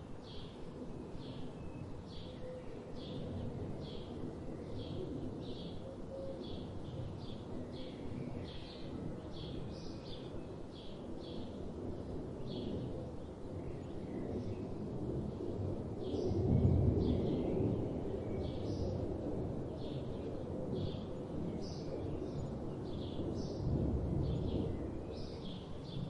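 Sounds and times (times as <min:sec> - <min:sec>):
low outdoor background rumble: 0:00.0 - 0:26.0.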